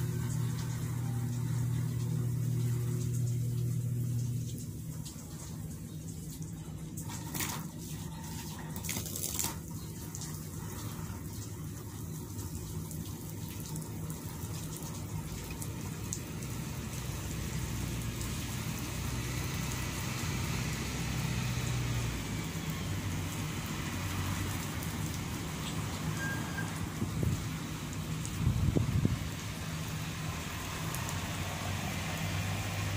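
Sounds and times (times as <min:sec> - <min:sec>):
hose spraying water on ground: 0:00.0 - 0:32.9
low machine hum: 0:00.0 - 0:32.9.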